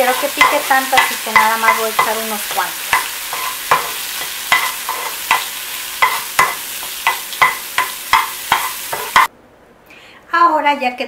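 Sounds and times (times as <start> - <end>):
chiles sizzling in oil: 0.0 - 9.3
spatula scraping a pan: 0.0 - 9.3.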